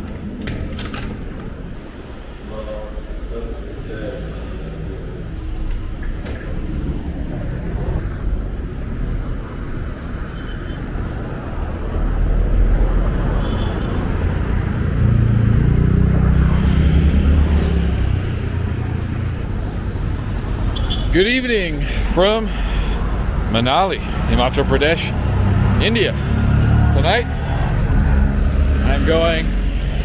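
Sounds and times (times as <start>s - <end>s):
road traffic rumble: 0.0s - 30.0s
vehicles passing close: 0.0s - 30.0s.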